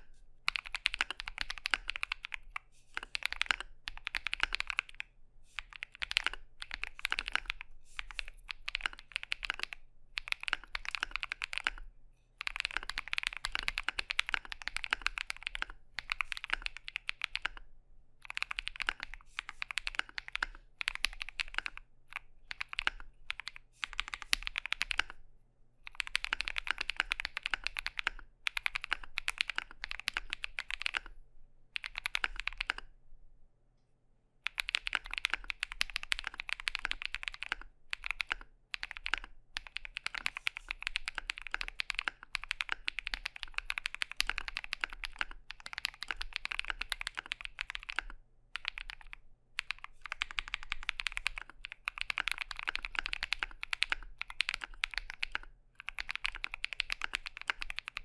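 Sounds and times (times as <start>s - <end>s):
typing on mechanical keyboard: 0.0s - 11.8s, 12.4s - 25.2s, 25.8s - 31.2s, 31.8s - 32.9s, 34.4s - 58.0s.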